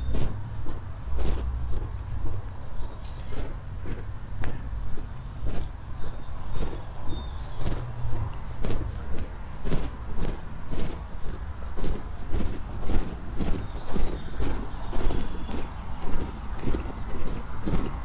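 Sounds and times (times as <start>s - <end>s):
footsteps walking: 0.0s - 18.0s.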